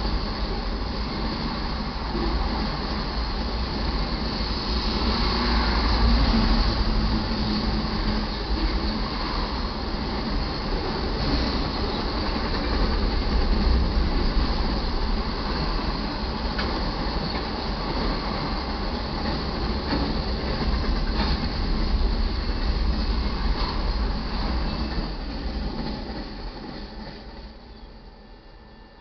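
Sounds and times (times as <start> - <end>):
steel wheels rumbling on rail: 0.0 - 29.0.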